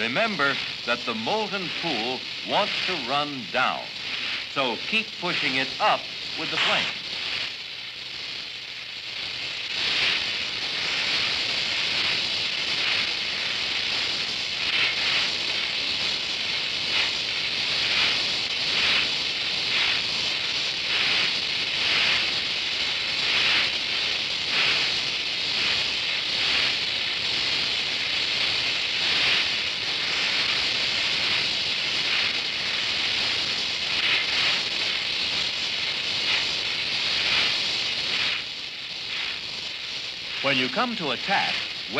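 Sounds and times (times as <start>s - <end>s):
weld puddle crackle: 0.0s - 41.9s
welding torch flame hissing: 0.0s - 41.9s.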